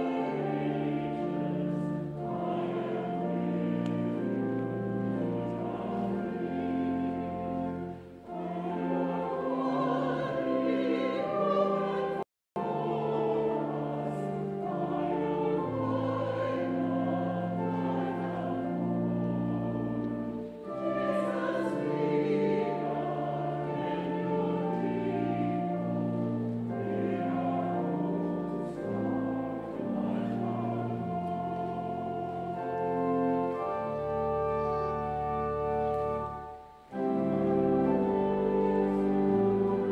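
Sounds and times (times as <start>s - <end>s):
choir singing: 0.0s - 39.9s
organ notes: 0.0s - 39.9s.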